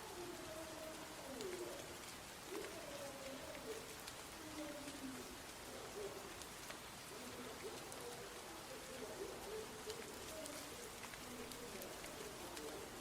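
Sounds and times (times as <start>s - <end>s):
doves cooing: 0.0s - 13.0s
light rain hiss: 0.0s - 13.0s
raindrops ticking: 0.0s - 13.0s.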